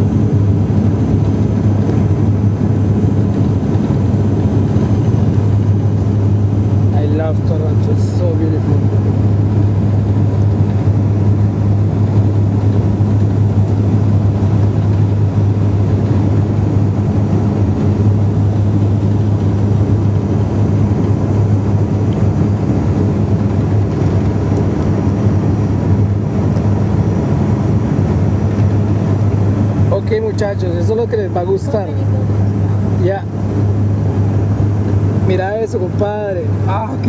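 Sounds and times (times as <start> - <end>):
low hum: 0.0 - 37.0
turboprop cabin drone: 0.0 - 37.0.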